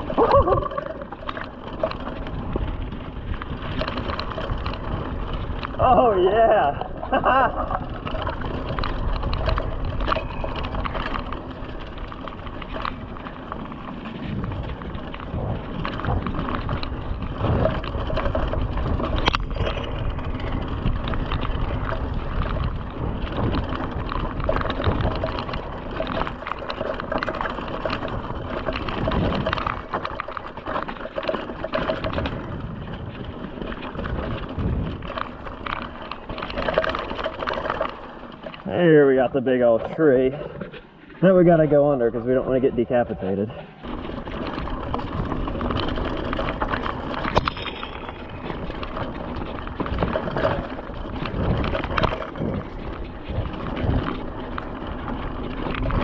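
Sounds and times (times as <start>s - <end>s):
bike rattles and clicks: 0.0s - 56.0s
bike tyres on dirt: 0.0s - 56.0s
low wind rumble on microphone: 0.0s - 56.0s.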